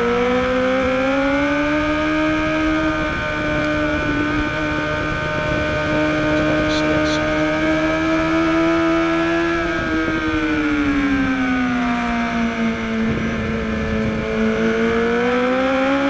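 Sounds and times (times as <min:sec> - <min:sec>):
motorcycle engine at racing speed: 0:00.0 - 0:16.0.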